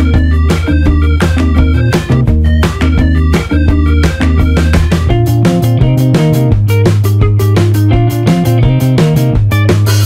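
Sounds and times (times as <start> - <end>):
music with beat and bass: 0.0 - 10.0.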